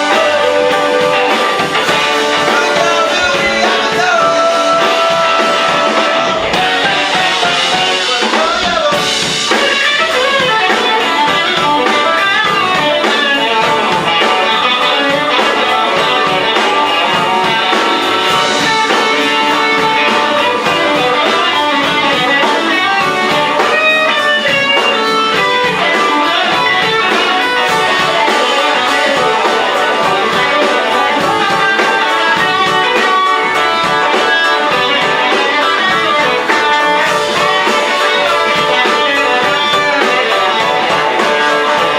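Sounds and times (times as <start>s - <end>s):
drum beat: 0.0s - 41.9s
electric guitar: 0.0s - 41.9s
live band playing: 0.0s - 41.9s.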